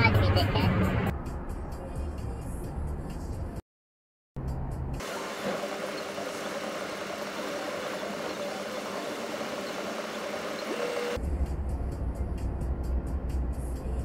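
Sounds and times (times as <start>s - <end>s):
lorry engine and road noise: 0.0s - 3.6s, 4.4s - 14.0s.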